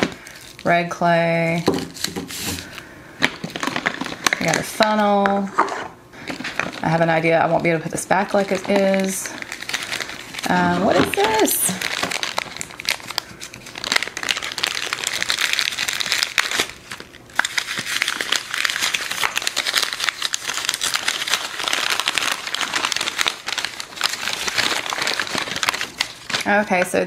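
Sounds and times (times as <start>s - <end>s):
paper and plastic crinkling: 0.0s - 0.8s, 1.5s - 27.0s.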